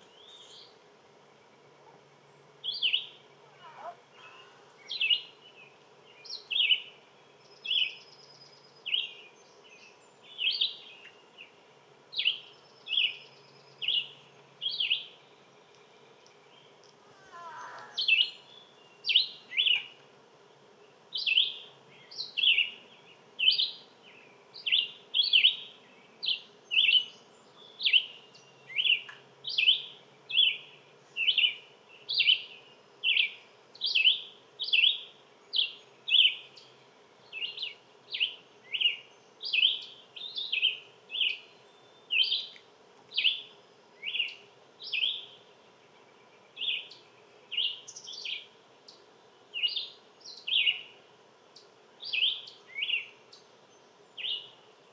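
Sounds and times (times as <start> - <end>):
songbird chirping: 0.0 - 54.9.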